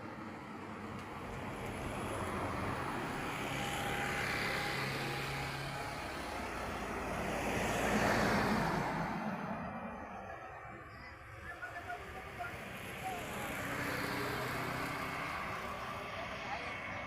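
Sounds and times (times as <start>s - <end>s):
faint jet engine whine: 0.0s - 17.0s.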